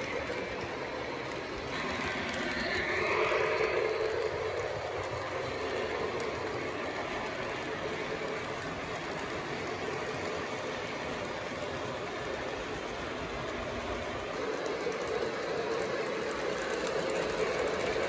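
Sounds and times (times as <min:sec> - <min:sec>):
model train cars rolling on track: 0:00.0 - 0:18.0.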